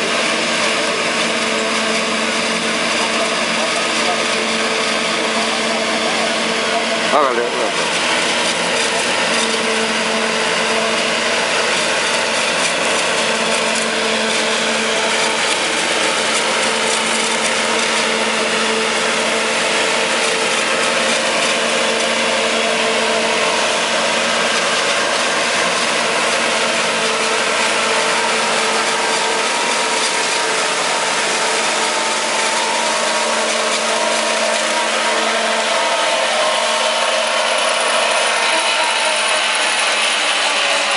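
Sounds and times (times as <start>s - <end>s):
tractor and harvester running: 0.0s - 40.9s.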